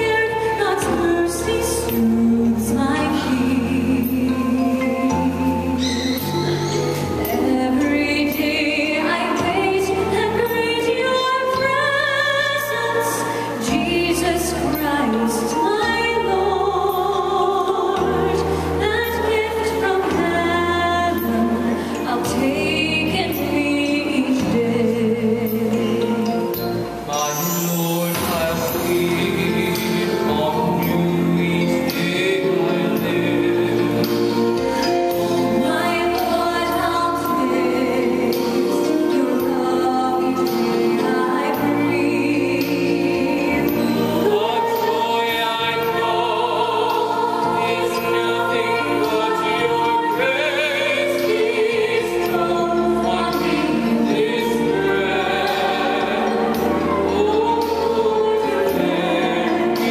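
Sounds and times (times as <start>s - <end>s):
instrumental accompaniment: 0.0s - 59.9s
man and woman singing duet: 0.0s - 59.9s.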